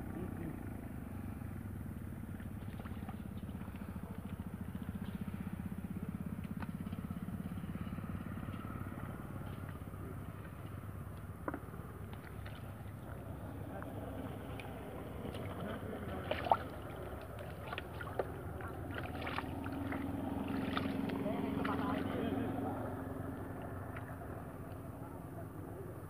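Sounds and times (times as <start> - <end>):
engine low pulsing drone: 0.0 - 26.0.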